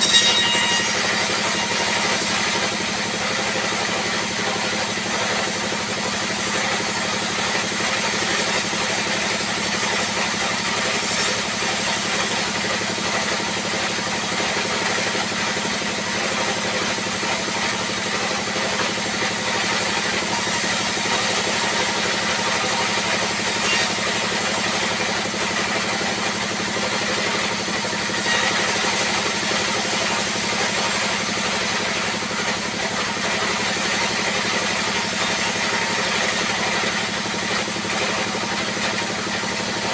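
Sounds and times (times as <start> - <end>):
band saw ripping timber: 0.0 - 15.6, 16.2 - 39.9.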